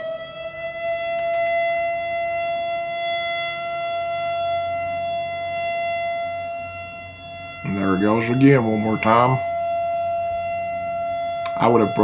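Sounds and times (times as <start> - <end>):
warning siren steady tone: 0.0 - 12.0.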